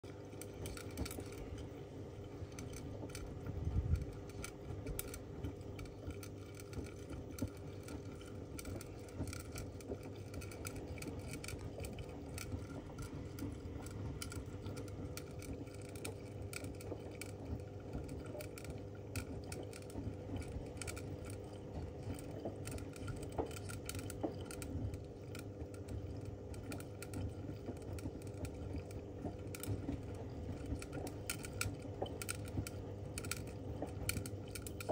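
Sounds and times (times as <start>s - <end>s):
steady hum: 0.0s - 34.9s
washing machine drum sloshing: 0.0s - 34.9s.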